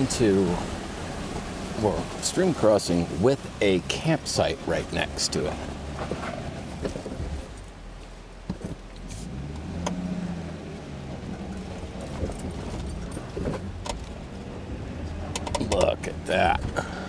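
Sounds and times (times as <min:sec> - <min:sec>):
off-road vehicle engine running low: 0:00.0 - 0:17.0.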